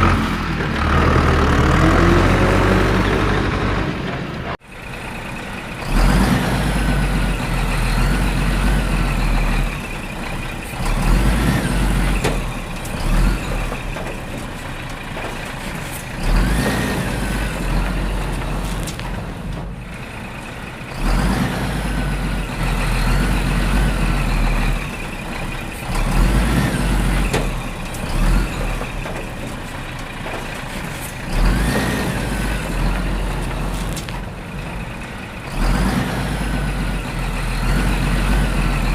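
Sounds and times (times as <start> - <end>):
heavy vehicle engine rumbling: 0.0 - 38.9.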